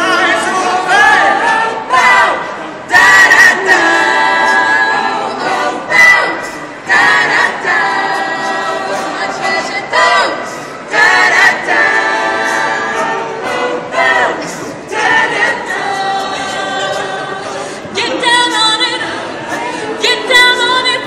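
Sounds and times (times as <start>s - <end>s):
a cappella group singing chords: 0.0s - 21.0s.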